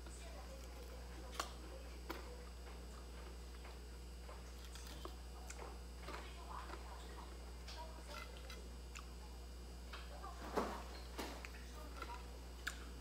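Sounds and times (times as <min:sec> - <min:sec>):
crunchy chewing: 0:00.0 - 0:10.1, 0:10.7 - 0:13.0.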